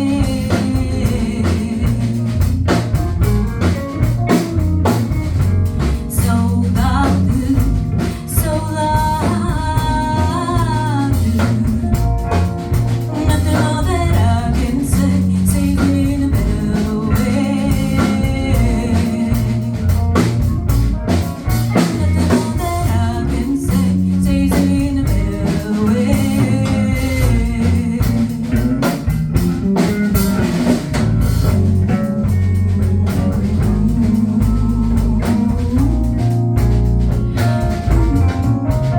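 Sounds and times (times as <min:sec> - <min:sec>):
person singing: 0:00.0 - 0:03.7, 0:05.8 - 0:20.6, 0:21.2 - 0:29.1, 0:31.7 - 0:36.7
bass line: 0:00.0 - 0:38.9
drum kit: 0:00.0 - 0:38.9
guitar: 0:00.0 - 0:38.9.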